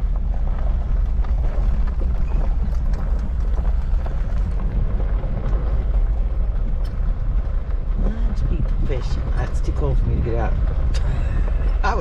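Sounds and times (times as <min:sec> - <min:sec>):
engine and tyres rumbling: 0:00.0 - 0:12.0
gravel clicking under wheels: 0:00.0 - 0:12.0.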